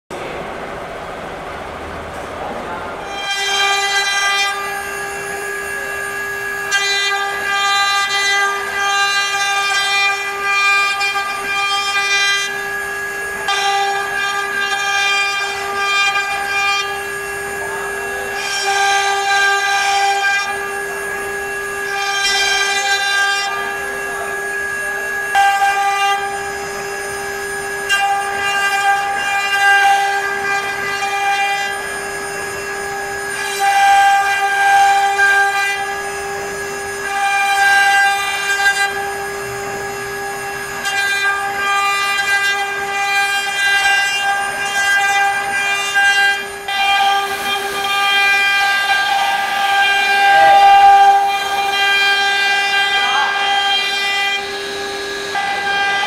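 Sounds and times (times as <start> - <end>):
router spindle whining: 3.0 - 56.0
bit cutting into wood: 3.1 - 56.0.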